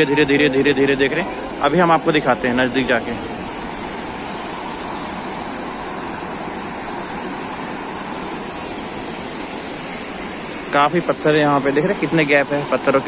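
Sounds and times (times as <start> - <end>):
river rushing around rocks: 0.0 - 13.0.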